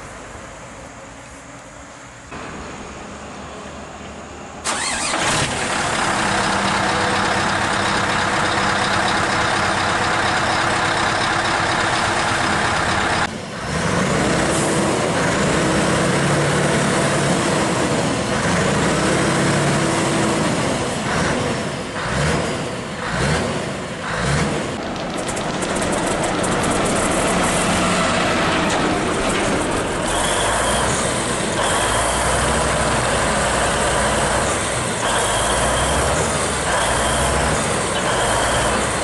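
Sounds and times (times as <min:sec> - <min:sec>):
diesel truck engine running: 0:02.3 - 0:39.0.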